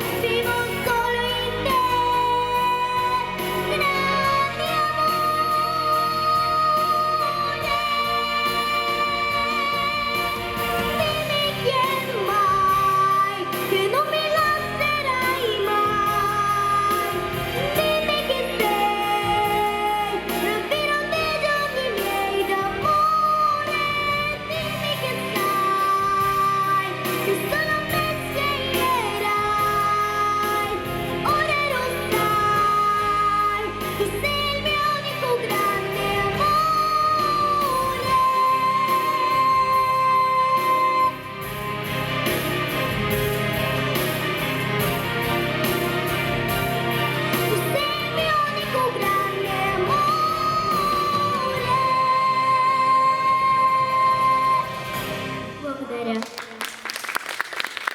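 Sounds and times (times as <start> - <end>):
woman singing: 0.0 - 41.4, 47.3 - 56.6
instrumental backing music: 0.0 - 57.9.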